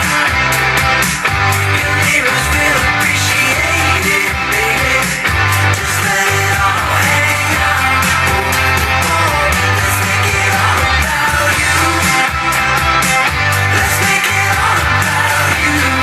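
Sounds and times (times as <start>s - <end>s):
rock song with singing: 0.0s - 16.0s
steady bass line: 0.0s - 16.0s.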